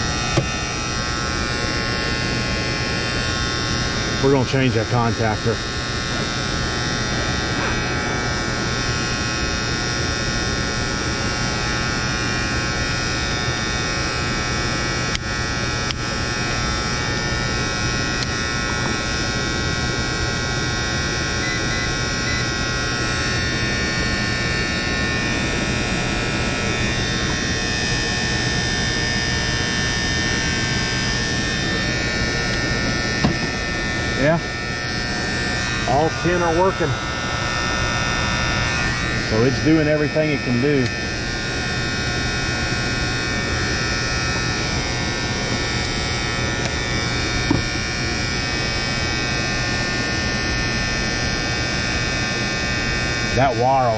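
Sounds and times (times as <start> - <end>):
electrical contactor buzzing: 0.0 - 53.9.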